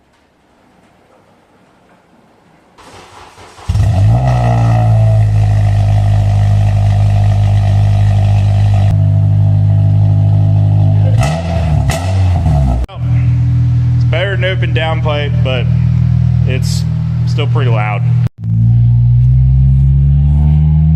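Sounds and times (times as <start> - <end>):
car engine cranking and idling: 2.8 - 20.9.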